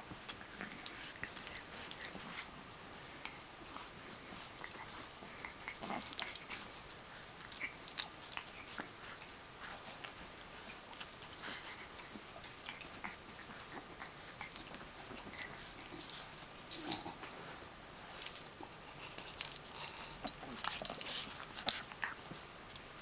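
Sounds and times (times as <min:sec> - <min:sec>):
faint high-pitched whine: 0:00.0 - 0:23.0.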